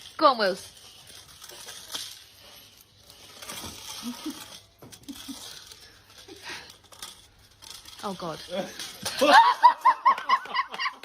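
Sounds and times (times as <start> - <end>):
plastic hoop crinkling and clicking: 0.0 - 9.3.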